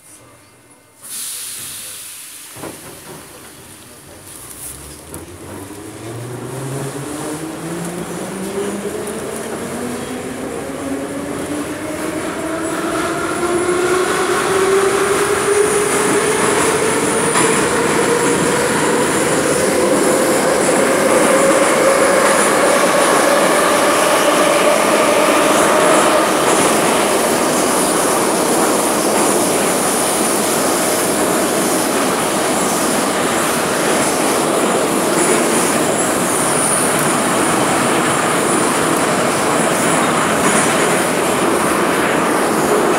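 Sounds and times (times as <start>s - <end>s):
train wheel and running noise: 0.0s - 42.9s.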